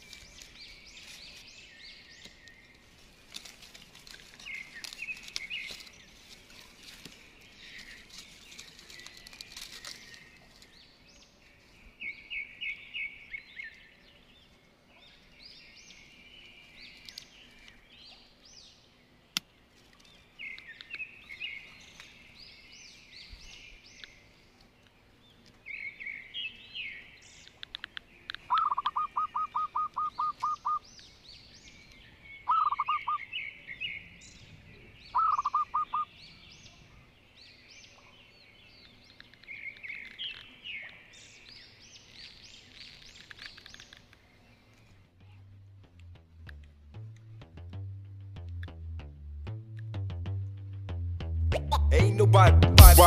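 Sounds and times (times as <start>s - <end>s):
birds chirping: 0.0s - 47.4s.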